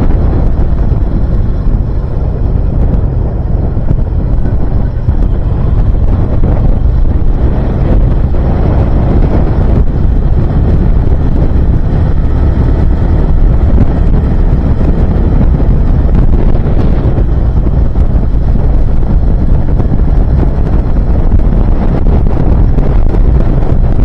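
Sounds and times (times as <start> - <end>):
motorcycle engine drone: 0.0 - 24.0
wind buffeting microphone: 0.0 - 24.0.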